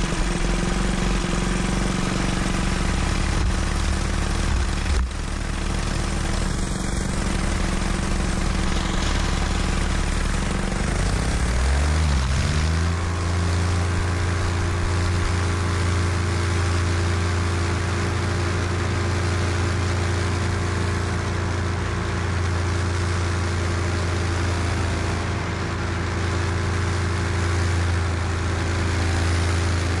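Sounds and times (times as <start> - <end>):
paramotor engine and propeller: 0.0 - 30.0.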